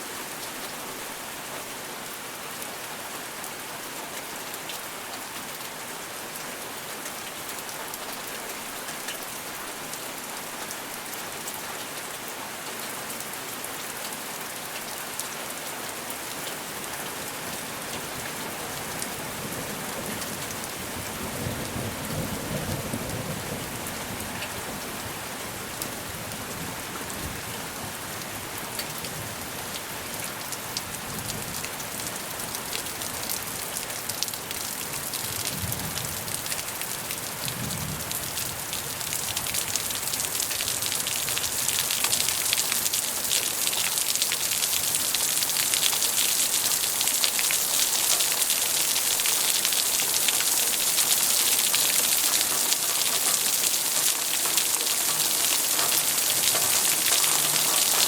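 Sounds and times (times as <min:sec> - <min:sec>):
rain pattering: 0:00.1 - 0:58.0.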